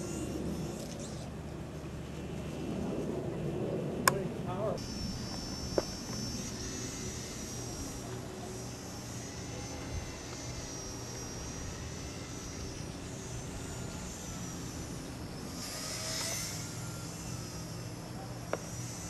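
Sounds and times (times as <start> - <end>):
small electric motor and propeller whining: 0.0 - 3.8, 4.5 - 19.0.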